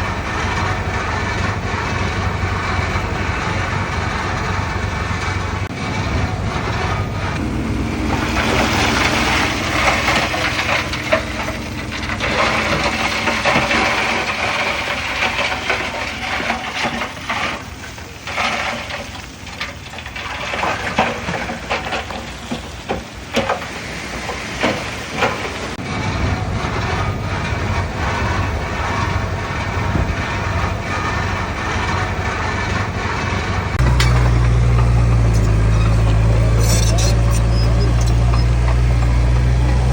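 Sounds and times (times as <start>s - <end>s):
bulldozer diesel engine running: 0.0s - 39.9s
metallic clattering and scraping: 0.0s - 39.9s.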